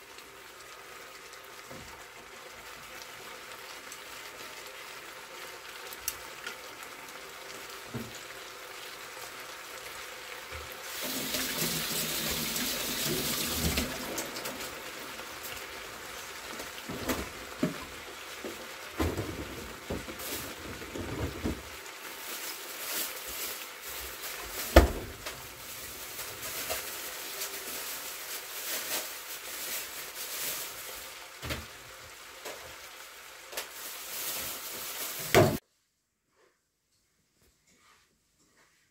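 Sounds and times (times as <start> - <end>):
food sizzling in a frying pan: 0.0 - 35.6.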